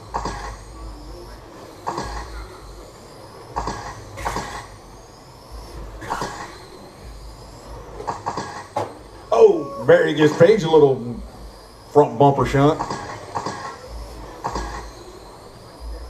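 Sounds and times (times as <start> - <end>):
electric motor whines: 0.0 - 16.0
tire and chassis noise: 0.0 - 16.0.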